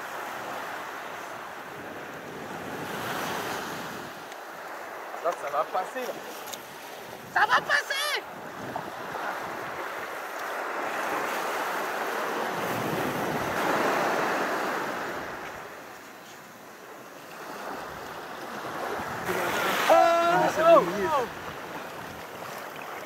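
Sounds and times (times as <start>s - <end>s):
sea waves washing up beach: 0.0s - 23.0s.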